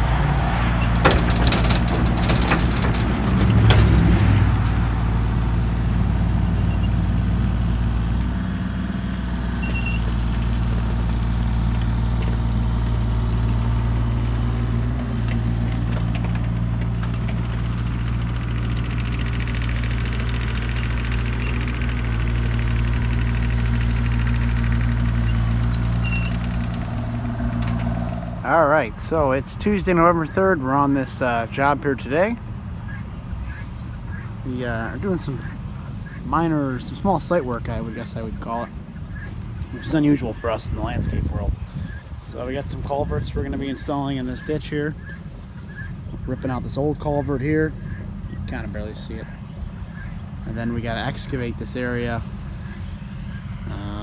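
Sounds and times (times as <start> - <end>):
engine running at low speed: 0.0 - 54.0.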